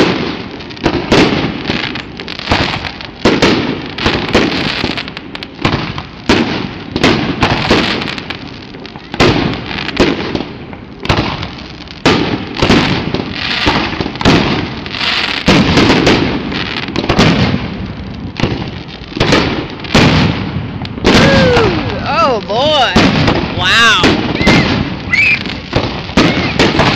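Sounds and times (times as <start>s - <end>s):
fireworks bursting: 0.0s - 26.9s.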